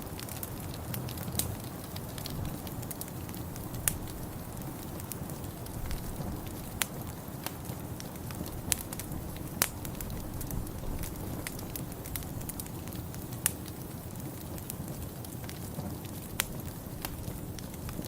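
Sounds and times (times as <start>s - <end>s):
sharp pops of fire: 0.0s - 18.0s
wood fire crackling: 0.0s - 18.0s.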